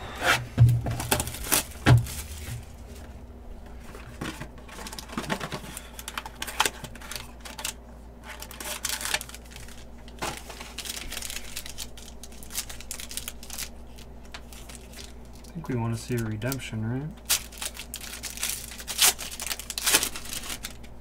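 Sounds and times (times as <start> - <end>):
foil wrapper crinkling: 0.8 - 3.1, 3.9 - 21.0.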